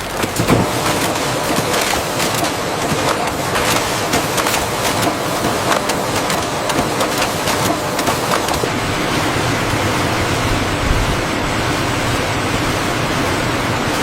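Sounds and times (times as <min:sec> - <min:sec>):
factory machinery rushing: 0:00.0 - 0:14.0.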